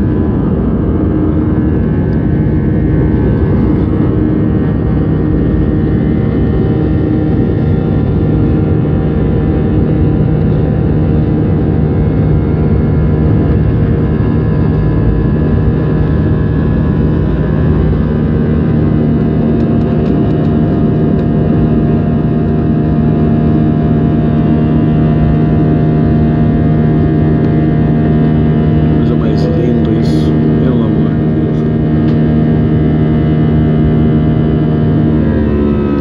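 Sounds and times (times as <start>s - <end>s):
jet engines roaring at takeoff: 0.0s - 36.0s.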